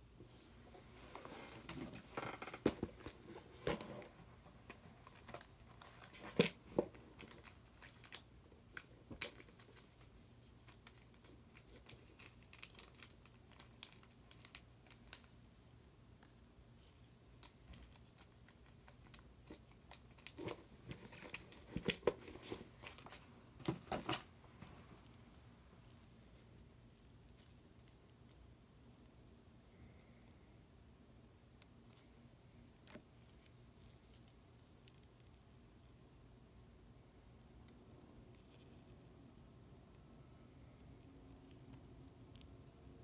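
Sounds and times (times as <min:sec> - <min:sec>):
rustling: 0:00.2 - 0:30.2, 0:31.4 - 0:36.0.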